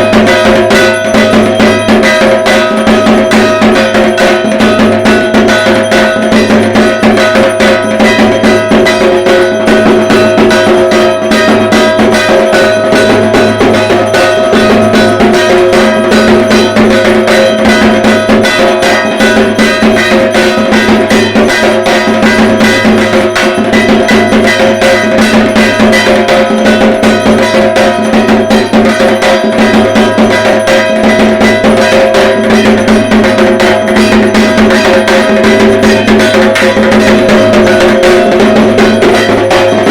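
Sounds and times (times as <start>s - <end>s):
drums played fast: 0.0s - 39.9s
steady ringing tone: 0.0s - 39.9s.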